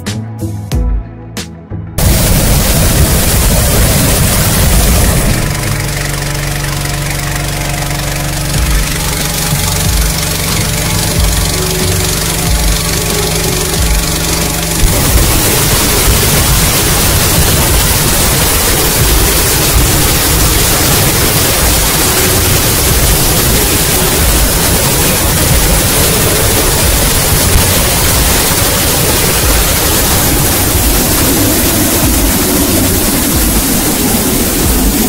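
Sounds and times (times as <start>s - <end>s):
inflator fan engine rumble: 2.0s - 35.0s
roar of air blown and heated: 2.0s - 35.0s.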